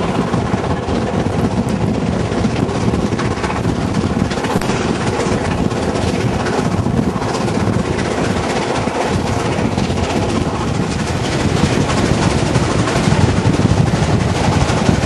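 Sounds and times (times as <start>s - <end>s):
steam locomotive exhaust beats: 0.0s - 15.0s
wheel and rail noise: 0.0s - 15.0s
wind rushing past window: 0.0s - 15.0s.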